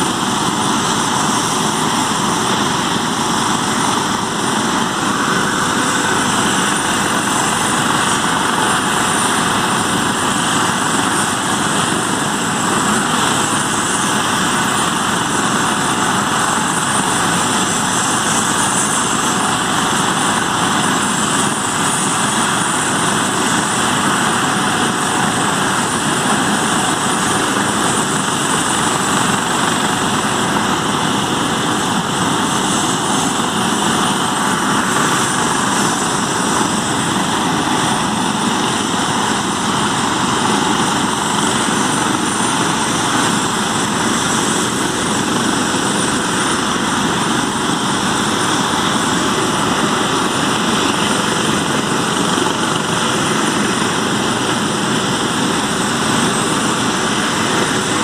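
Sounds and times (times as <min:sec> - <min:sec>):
helicopter engine and rotor noise: 0:00.0 - 0:58.0
high turbine whine: 0:00.0 - 0:58.0.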